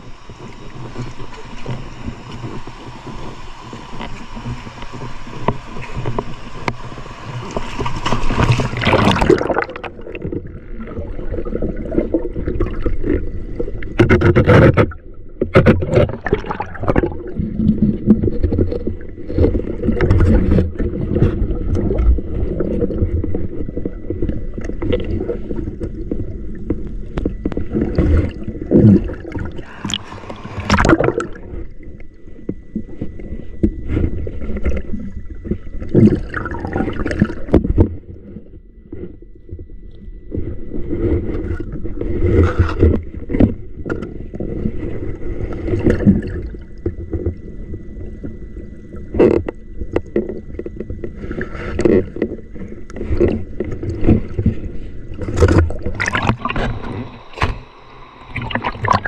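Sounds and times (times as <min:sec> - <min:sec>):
water splashing and sloshing: 0:00.0 - 0:59.0.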